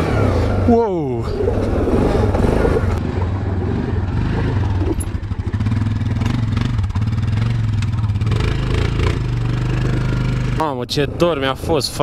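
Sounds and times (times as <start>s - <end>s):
quad engine running at low revs: 0.0s - 12.0s.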